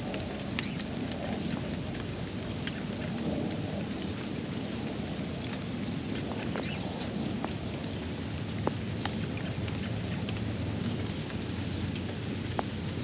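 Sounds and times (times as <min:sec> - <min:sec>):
rain falling on a pond: 0:00.0 - 0:13.0
sharp drip ticks: 0:00.0 - 0:13.0.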